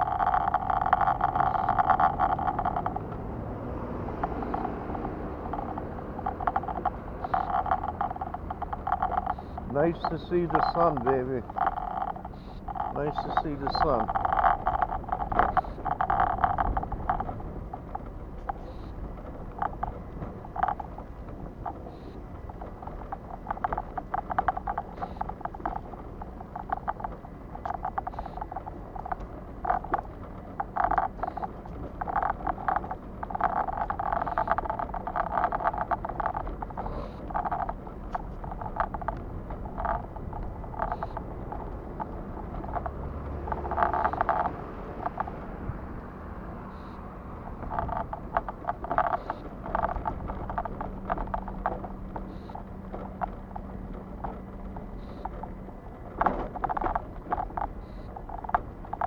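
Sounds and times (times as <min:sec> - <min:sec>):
irregular bursts of noise: 0:00.0 - 0:59.0
vehicle engine rumbling: 0:00.0 - 0:59.0.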